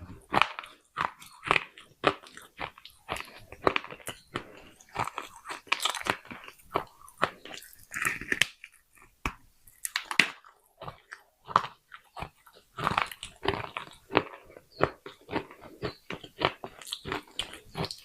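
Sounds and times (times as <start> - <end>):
crunchy biting and chewing: 0.0 - 18.0.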